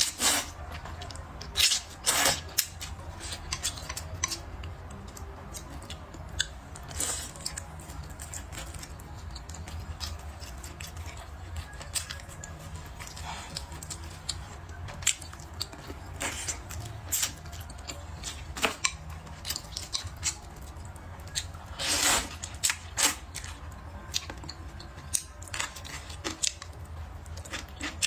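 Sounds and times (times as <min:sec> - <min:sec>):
wet chewing: 0:00.1 - 0:28.0.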